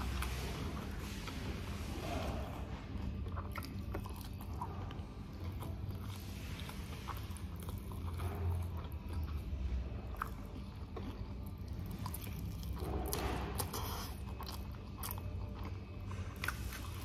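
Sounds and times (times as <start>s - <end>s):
person chewing food: 0.0s - 17.0s
steady low hum: 0.0s - 17.0s.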